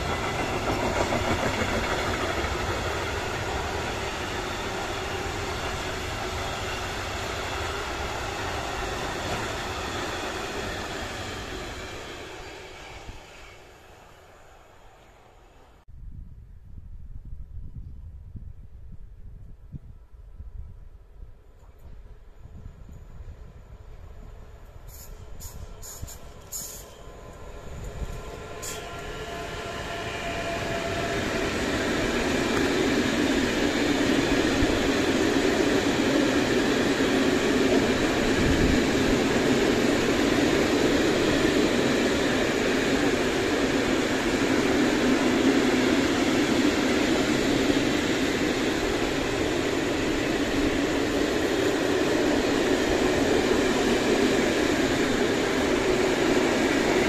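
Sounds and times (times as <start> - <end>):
freight train rolling past: 0.0 - 15.8, 21.9 - 57.0.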